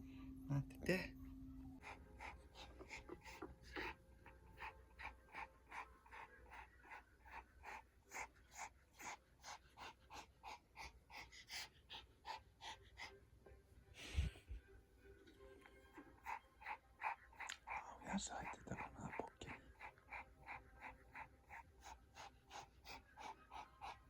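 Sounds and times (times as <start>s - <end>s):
dog panting: 1.8s - 13.4s, 15.6s - 24.0s.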